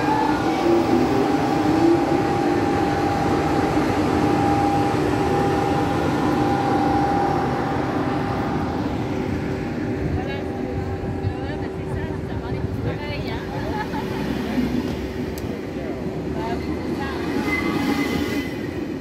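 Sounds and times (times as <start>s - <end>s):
train passing rumble and whine: 0.0s - 19.0s.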